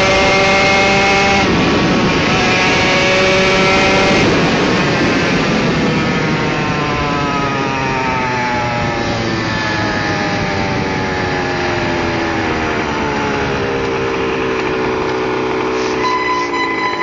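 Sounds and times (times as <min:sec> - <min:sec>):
motocross engine running: 0:00.0 - 0:07.1, 0:08.8 - 0:17.0.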